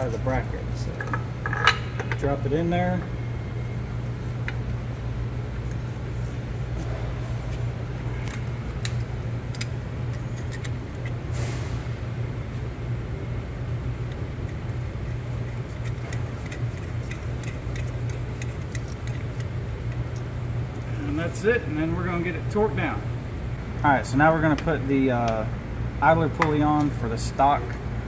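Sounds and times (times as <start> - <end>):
low shop hum: 0.0 - 28.0.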